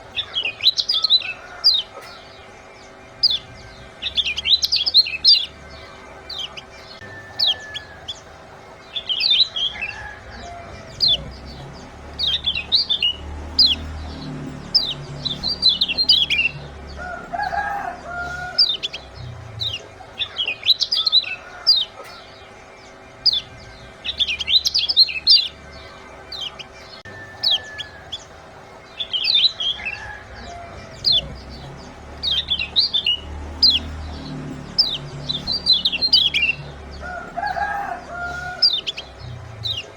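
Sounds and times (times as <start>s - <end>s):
bird sharp chirps: 0.0s - 39.9s
lower bird call: 0.0s - 39.9s.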